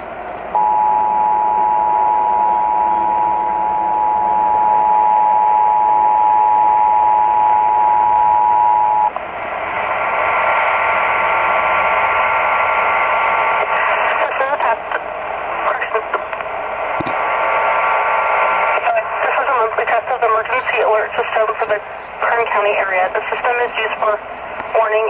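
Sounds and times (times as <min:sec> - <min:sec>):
radio hiss: 0:00.0 - 0:05.0, 0:08.7 - 0:25.0.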